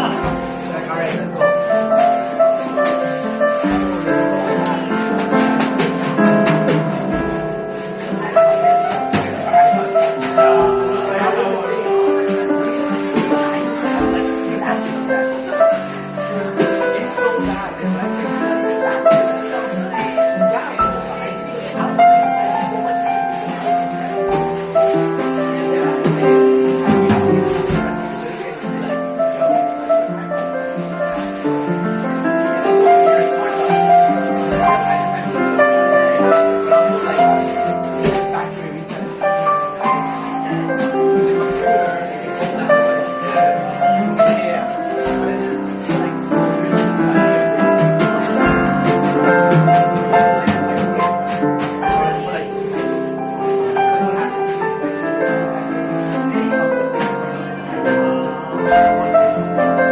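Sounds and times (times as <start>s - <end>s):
people chatting: 0.0s - 5.1s, 8.0s - 31.4s, 32.6s - 55.4s
jazz band playing: 0.0s - 45.0s, 45.6s - 59.9s
piano: 0.0s - 59.9s.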